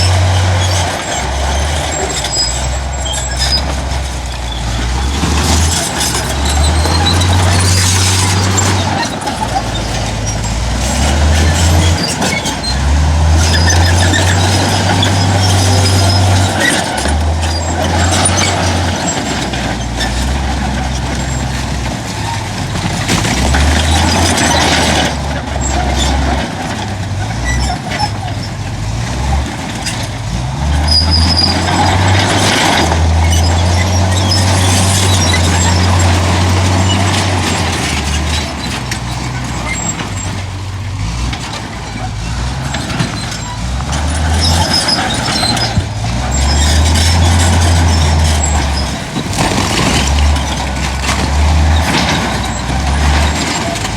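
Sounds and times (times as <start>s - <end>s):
diesel engines under load: 0.0s - 53.9s
machinery clanking: 0.0s - 53.9s.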